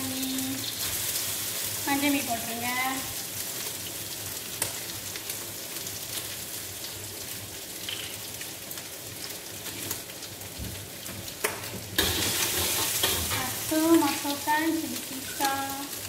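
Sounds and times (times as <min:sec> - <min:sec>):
noodles sizzling in hot oil: 0:00.0 - 0:16.0.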